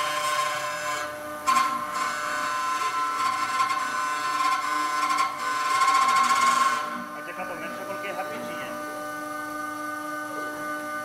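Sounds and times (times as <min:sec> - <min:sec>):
router spindle whining: 0:00.0 - 0:11.0.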